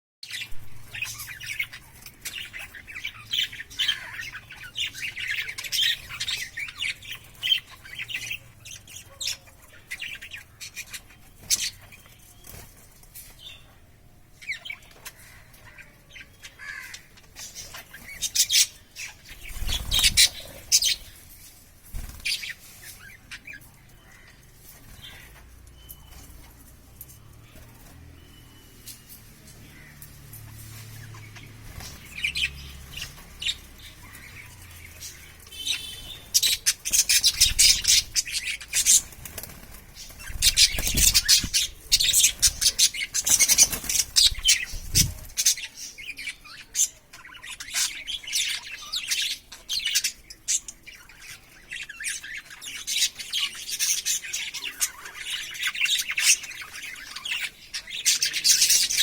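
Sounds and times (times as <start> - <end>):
budgerigars chirping: 0.3 - 12.7, 14.4 - 21.2, 29.6 - 59.0.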